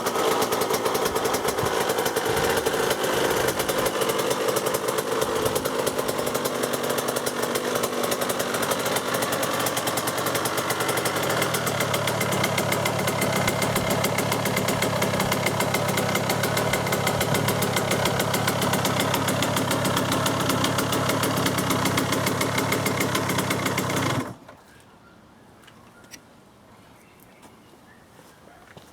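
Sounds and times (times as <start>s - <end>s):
two-stroke engine idling: 0.0s - 24.4s.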